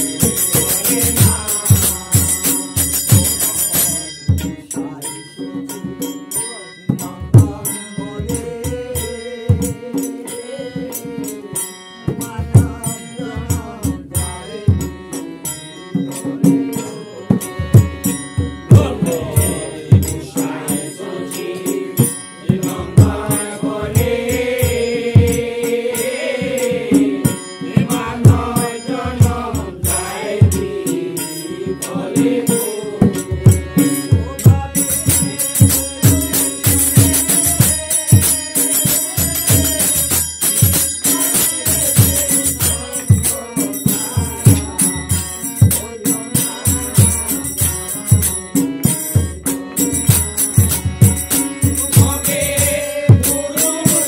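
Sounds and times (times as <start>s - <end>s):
group singing devotional song: 0.0s - 6.3s, 6.9s - 54.0s
harmonium: 0.0s - 54.0s
jingling hand cymbals: 0.0s - 54.0s.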